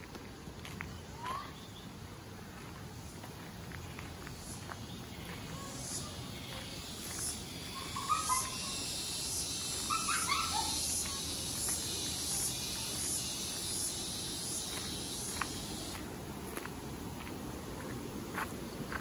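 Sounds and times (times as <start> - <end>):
footsteps on gravel: 0.0 - 1.5, 2.5 - 19.0
high insect drone: 0.0 - 19.0.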